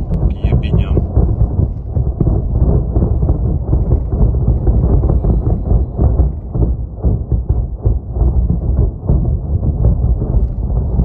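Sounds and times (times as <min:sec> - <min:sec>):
distant shelling and explosions: 0:00.0 - 0:11.0.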